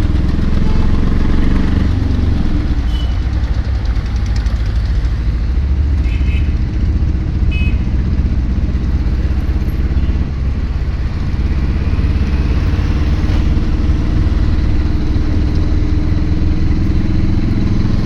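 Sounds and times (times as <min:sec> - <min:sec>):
deep road noise rumble: 0:00.0 - 0:18.0
vehicle engine running: 0:00.0 - 0:18.0.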